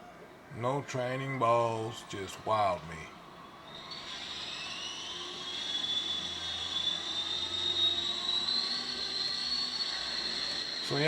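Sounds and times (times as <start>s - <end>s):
rc helicopter whine: 1.5s - 11.0s.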